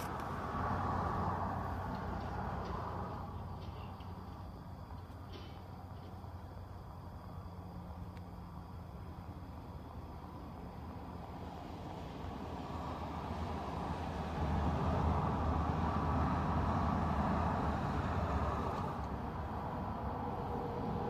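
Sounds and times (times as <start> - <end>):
car passing: 0.0 - 4.9, 6.5 - 21.0.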